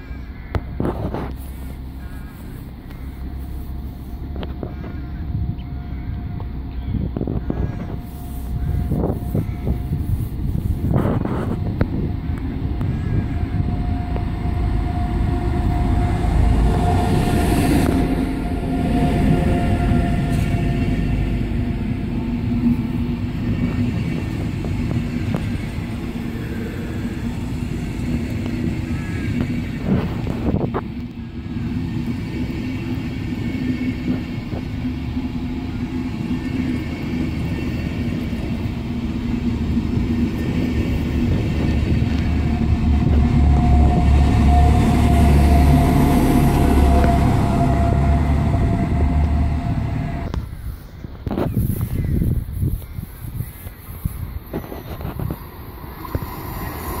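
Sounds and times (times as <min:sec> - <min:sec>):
diesel locomotive engine rumble: 0:00.0 - 0:57.0
train wheels rumbling on rails: 0:00.0 - 0:57.0.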